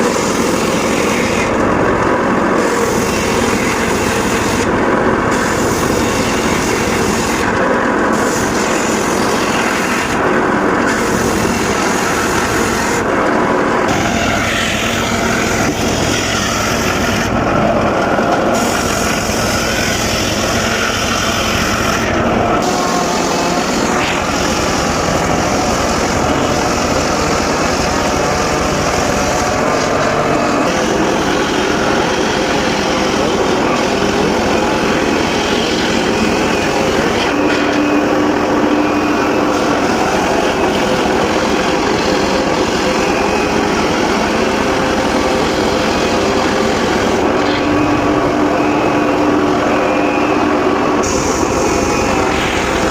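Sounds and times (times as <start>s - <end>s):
circular saw cutting wood: 0.0s - 52.9s.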